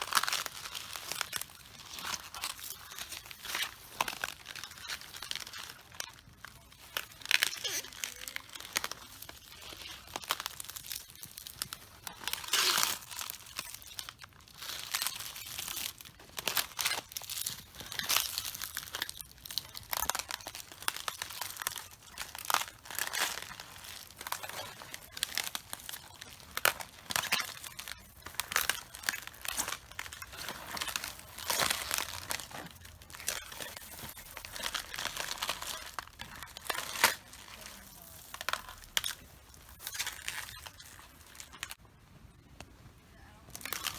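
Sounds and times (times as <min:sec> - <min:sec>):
footsteps crunching cabbages: 0:00.0 - 0:41.8, 0:43.5 - 0:43.9.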